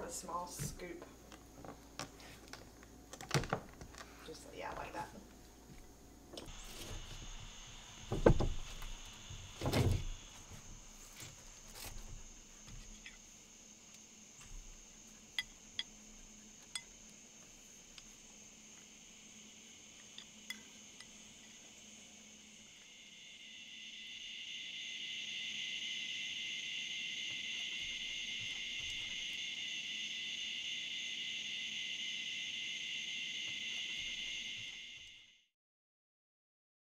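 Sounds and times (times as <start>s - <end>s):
insects trilling: 0.0s - 35.4s.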